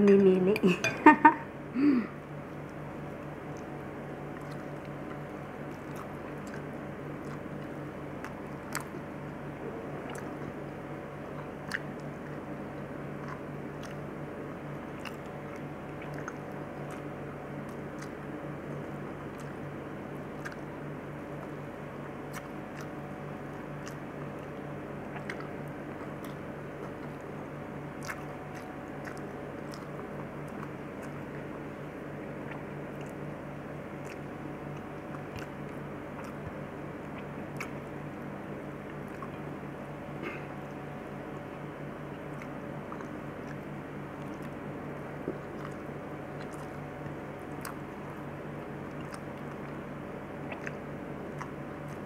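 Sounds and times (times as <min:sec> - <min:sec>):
steady low hum: 0:00.0 - 0:52.0
chewing mouth sounds: 0:02.5 - 0:52.0.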